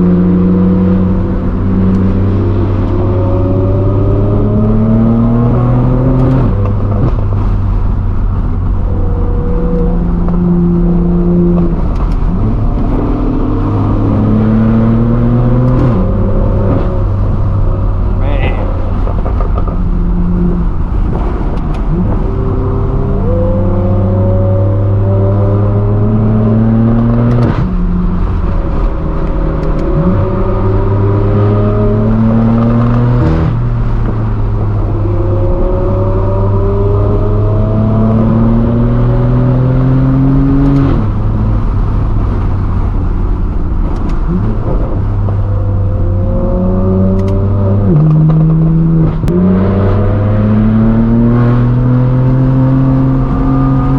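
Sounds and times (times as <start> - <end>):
car exhaust accelerating through gears: 0.0 - 53.9.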